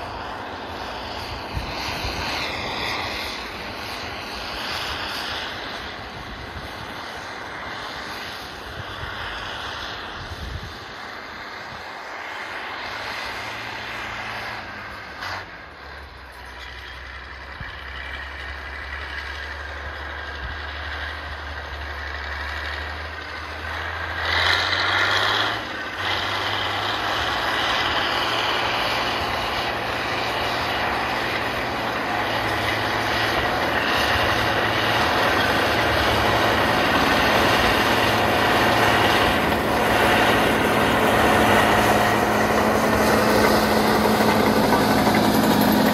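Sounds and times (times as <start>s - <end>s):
tractor diesel engine working: 0.0s - 45.9s.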